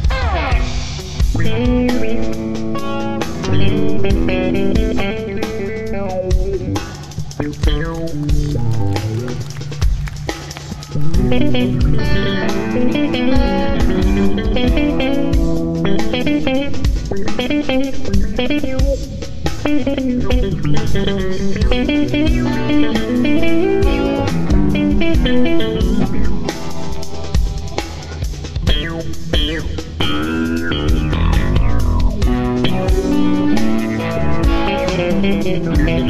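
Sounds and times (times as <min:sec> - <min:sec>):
bass guitar: 0:00.0 - 0:36.0
drum kit: 0:00.0 - 0:36.0
electric guitar lead lines: 0:00.0 - 0:36.0.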